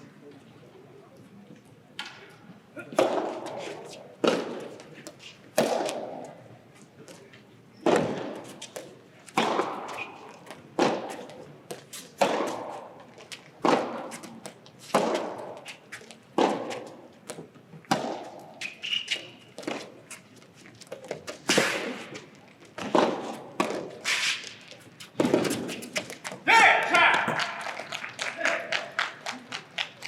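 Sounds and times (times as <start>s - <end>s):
rackets striking ball in hall: 2.0s - 20.0s, 20.9s - 30.0s.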